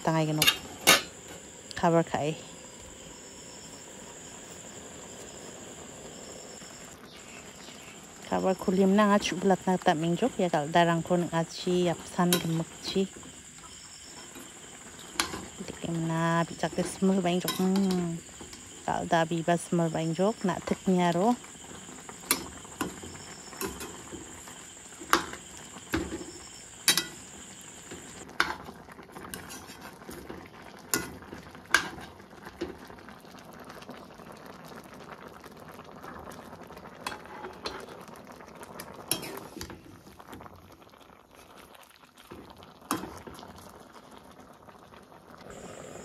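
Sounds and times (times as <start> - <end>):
stew simmering and bubbling: 0.0 - 46.0.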